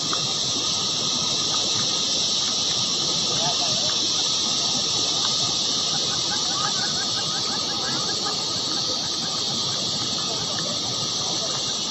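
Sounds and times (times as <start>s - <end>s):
steady high hiss: 0.0s - 11.9s.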